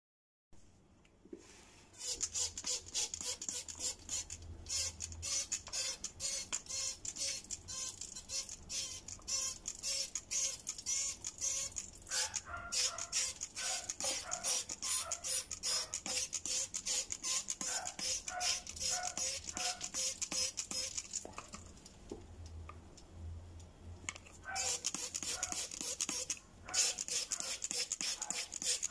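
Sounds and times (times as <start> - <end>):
spray bottle squirting: 2.0 - 21.7, 24.5 - 28.9.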